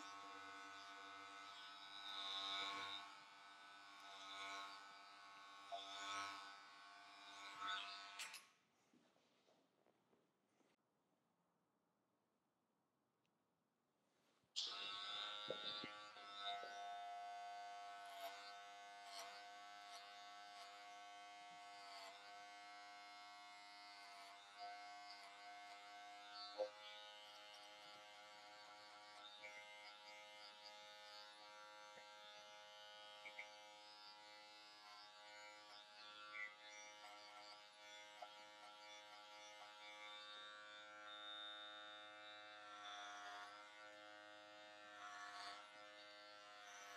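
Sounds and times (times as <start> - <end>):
electric hair clippers buzzing: 0.0 - 8.5, 14.6 - 46.9.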